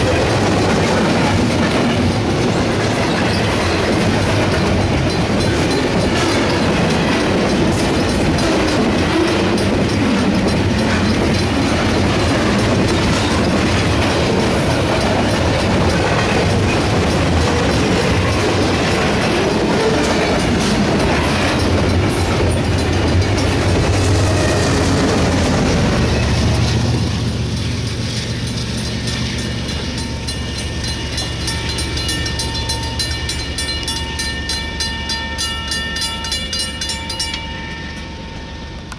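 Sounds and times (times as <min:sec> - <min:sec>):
wheels clacking over rail joints: 0:00.0 - 0:37.5
freight train rumbling: 0:00.0 - 0:38.9.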